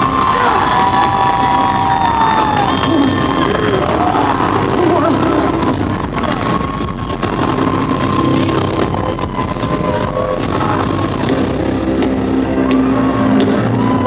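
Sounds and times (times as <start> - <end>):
low rumble: 0.0 - 14.0
sustained music chords: 0.0 - 14.0.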